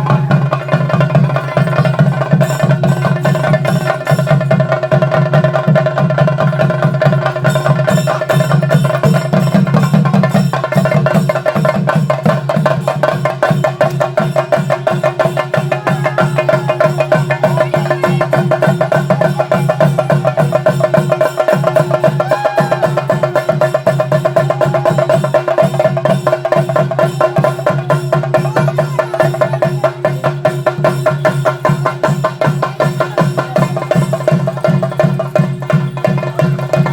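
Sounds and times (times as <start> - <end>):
drums beaten in fast rhythm: 0.0 - 36.9.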